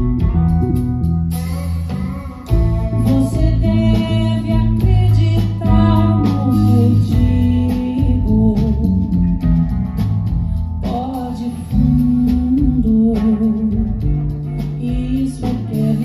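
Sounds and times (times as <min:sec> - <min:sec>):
guitar and drums: 0:00.0 - 0:16.0
person singing: 0:01.3 - 0:09.4, 0:10.7 - 0:16.0.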